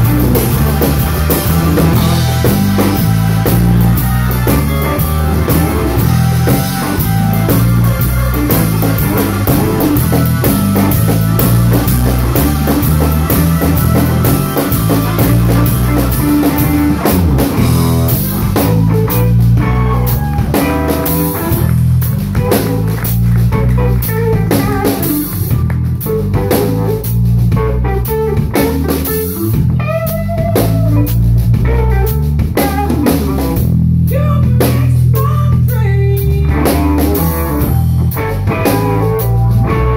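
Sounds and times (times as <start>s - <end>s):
pitch-bending lead line: 0.0s - 33.6s
drum kit: 0.0s - 39.9s
electric bass guitar: 0.0s - 39.9s
stage piano: 0.0s - 39.9s.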